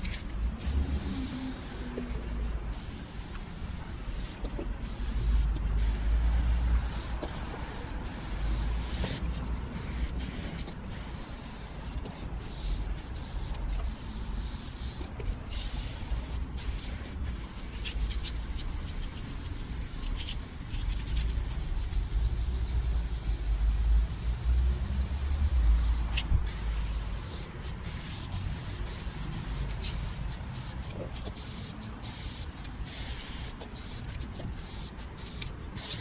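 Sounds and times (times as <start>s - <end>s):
spray paint can hissing: 0.0s - 36.0s.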